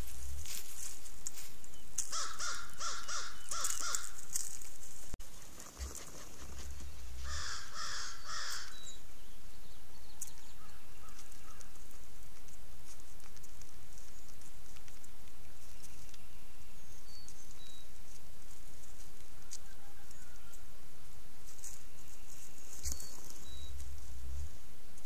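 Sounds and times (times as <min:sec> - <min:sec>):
turkey steps in dry leaves: 0:00.0 - 0:09.0, 0:10.0 - 0:25.0.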